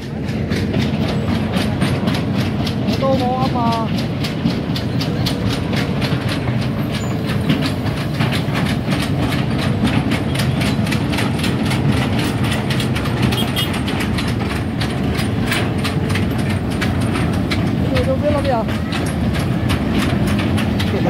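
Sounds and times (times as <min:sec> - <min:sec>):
diesel engine running: 0:00.0 - 0:21.0
steel tracks clanking: 0:00.0 - 0:21.0.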